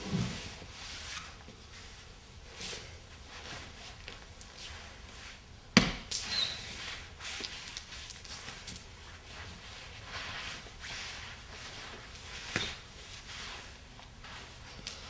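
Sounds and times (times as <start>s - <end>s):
body sliding across floor: 0.0s - 5.4s, 6.4s - 15.0s.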